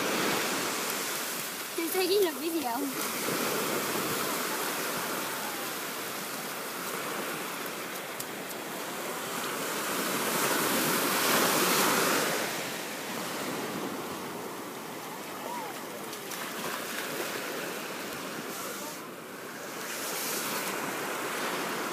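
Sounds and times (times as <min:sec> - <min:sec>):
small waves breaking: 0:00.0 - 0:21.9
wave crashing: 0:00.0 - 0:21.9.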